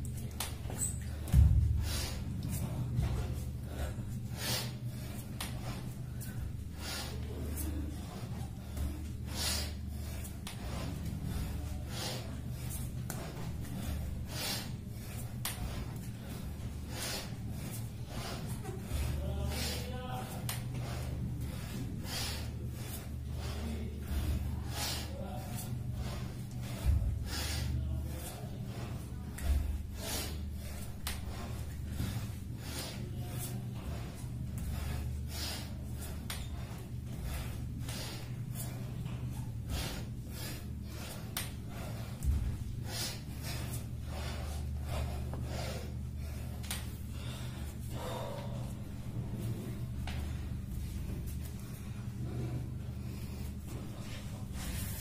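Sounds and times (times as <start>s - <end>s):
person breathing hard: 0.0s - 55.0s
steady low hum: 0.0s - 55.0s.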